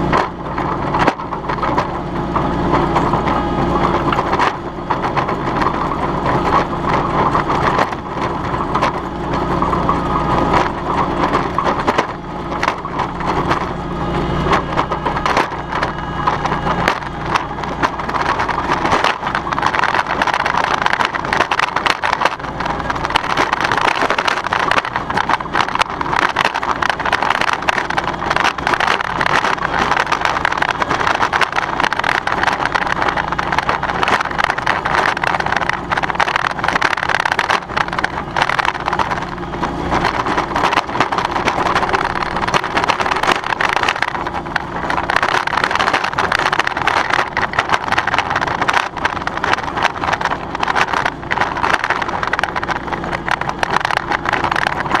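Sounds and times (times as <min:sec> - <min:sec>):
aerator tines clattering: 0:00.0 - 0:55.0
lawn tractor running: 0:00.0 - 0:55.0.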